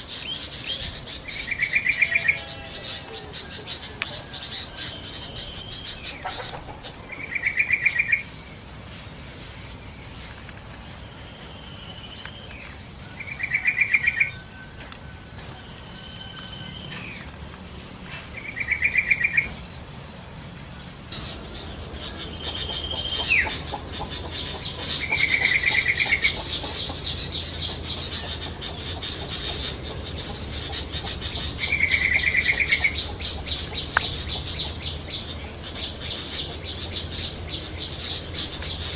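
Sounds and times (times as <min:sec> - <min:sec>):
bulbul calling: 0:00.0 - 0:38.9
faint calls of other birds: 0:00.0 - 0:38.9.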